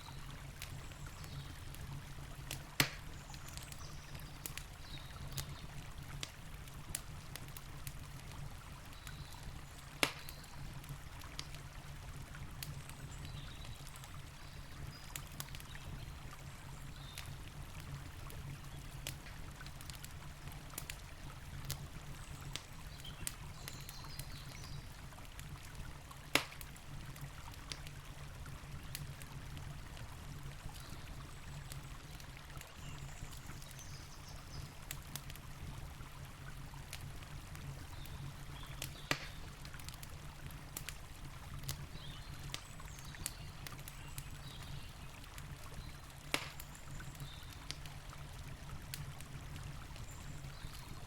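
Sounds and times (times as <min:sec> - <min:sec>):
campfire crackling and popping: 0:00.0 - 0:51.0.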